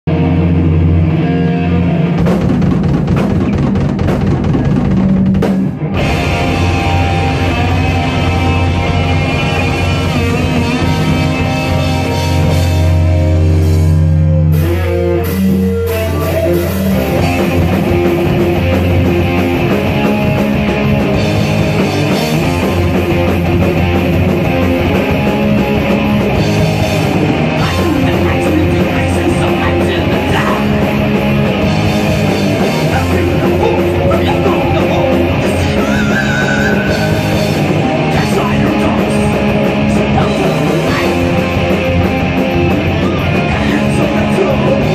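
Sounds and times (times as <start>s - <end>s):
electric guitar: 0.0s - 44.9s
rock band playing live: 0.0s - 44.9s
drum kit: 0.1s - 44.9s.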